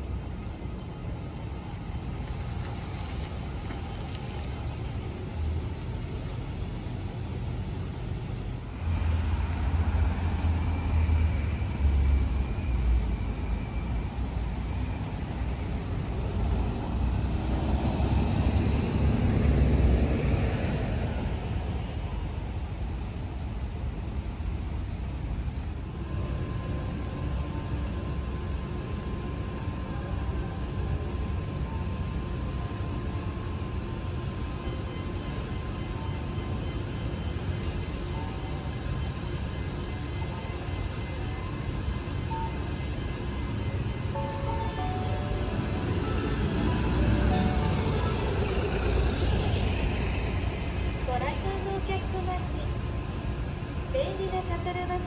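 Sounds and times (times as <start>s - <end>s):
bus engine rumble driving past: 0.0s - 55.0s
street traffic: 0.0s - 55.0s.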